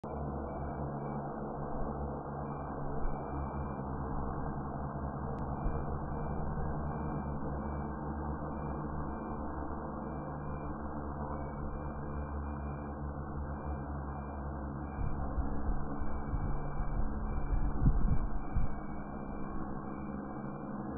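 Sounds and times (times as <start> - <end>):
drone hovering hum: 0.0 - 20.9.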